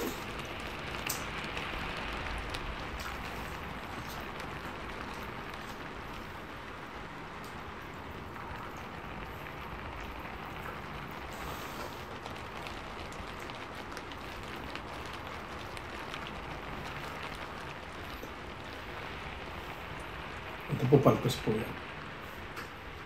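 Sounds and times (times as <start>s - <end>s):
heavy rain hissing: 0.0s - 23.0s
raindrops ticking: 0.0s - 23.0s.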